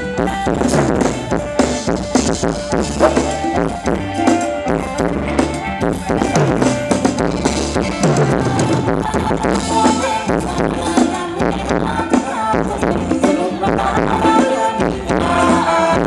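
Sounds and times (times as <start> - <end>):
live band playing dance tune: 0.0 - 16.0.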